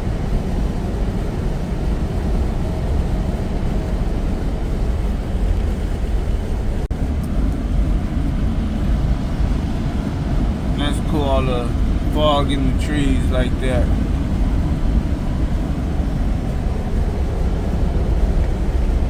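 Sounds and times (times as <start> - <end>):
road noise: 0.0 - 19.0
truck engine rumble: 0.0 - 19.0.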